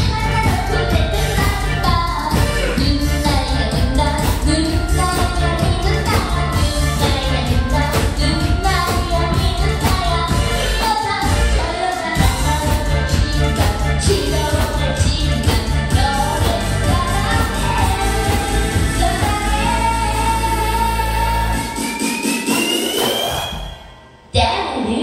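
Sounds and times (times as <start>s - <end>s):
girl singing into a microphone: 0.0s - 21.7s
backing music with steady beat: 0.0s - 24.3s.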